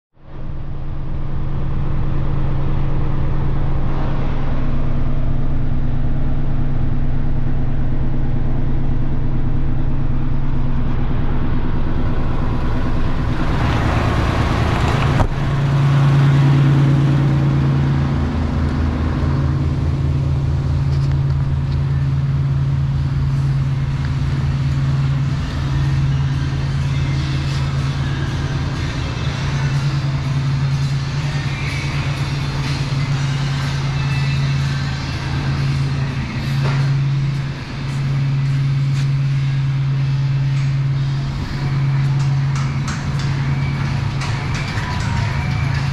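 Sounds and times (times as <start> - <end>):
truck diesel engine idling: 0.3 - 45.9.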